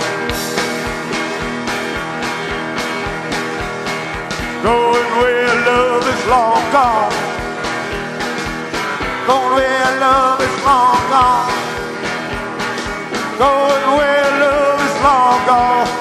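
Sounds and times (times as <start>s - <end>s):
driving drum beat: 0.0s - 16.0s
electric guitar lead with bent notes: 0.0s - 16.0s.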